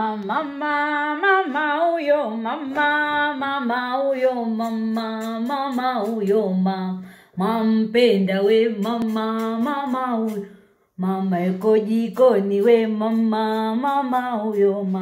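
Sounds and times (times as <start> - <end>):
woman singing unaccompanied: 0.0 - 15.0.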